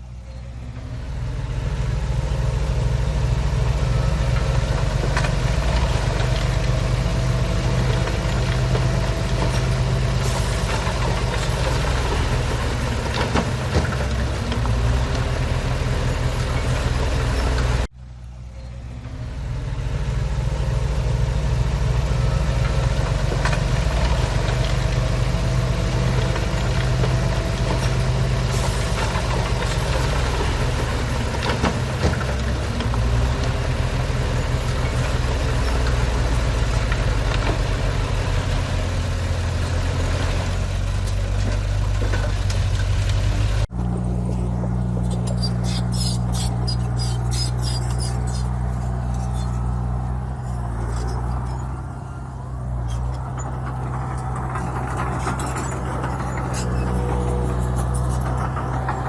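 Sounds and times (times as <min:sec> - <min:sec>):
diesel engine low rumble: 0:00.0 - 0:59.0.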